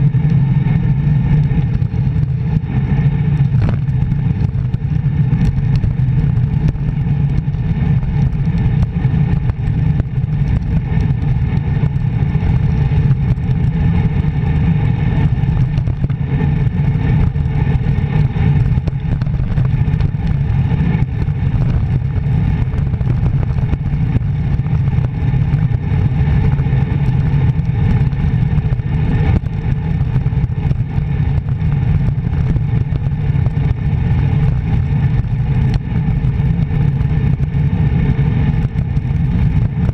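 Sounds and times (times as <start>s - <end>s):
wind buffeting on camera: 0.0s - 39.9s.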